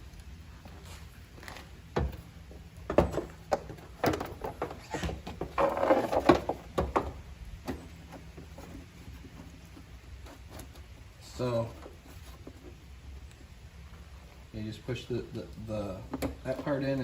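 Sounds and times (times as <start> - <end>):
scraping rustle: 0.6 - 17.0.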